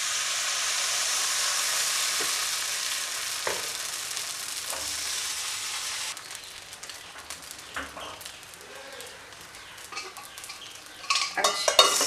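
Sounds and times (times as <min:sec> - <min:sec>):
batter sizzling in a pan: 0:00.0 - 0:12.0.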